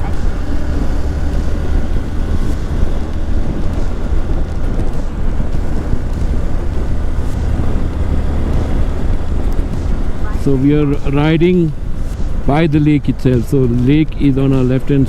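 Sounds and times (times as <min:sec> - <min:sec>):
motorcycle engine at speed: 0:00.0 - 0:15.0
road rumble: 0:00.0 - 0:15.0
wind buffeting microphone: 0:00.0 - 0:15.0.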